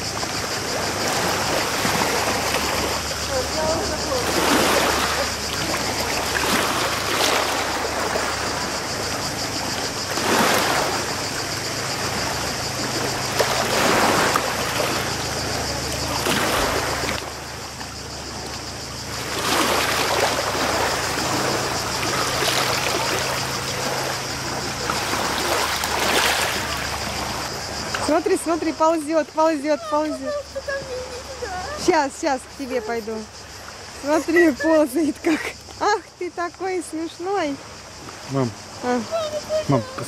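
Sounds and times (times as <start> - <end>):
small waves washing ashore: 0.0 - 40.0.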